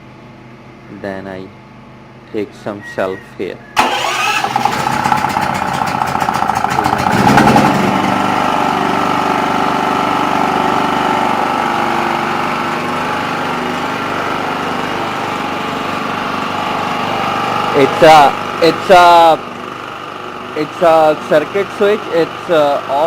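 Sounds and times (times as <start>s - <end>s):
generator engine running: 3.8s - 23.0s.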